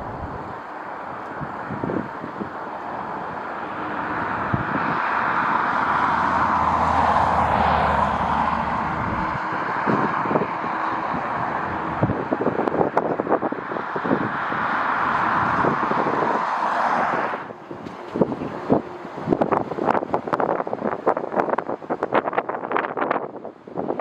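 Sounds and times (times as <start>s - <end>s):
jet airliner passing: 0.0s - 21.0s
wind buffeting microphone: 0.0s - 24.0s.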